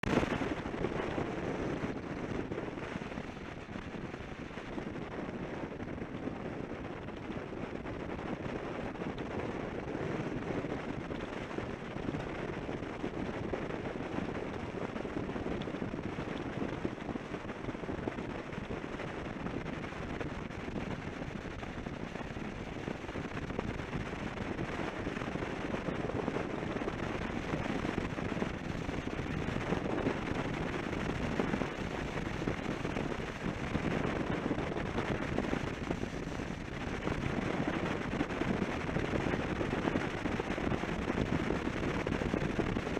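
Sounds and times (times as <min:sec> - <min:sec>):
wind buffets crackling: 0:00.0 - 0:42.9
wind roar on microphone: 0:00.0 - 0:42.9.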